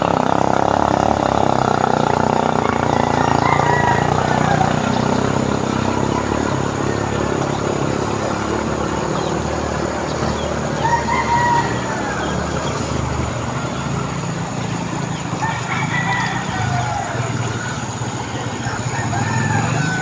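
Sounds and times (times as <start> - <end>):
outdoor background rumble: 0.0 - 20.0
rooster crowing: 0.6 - 14.4, 15.1 - 20.0.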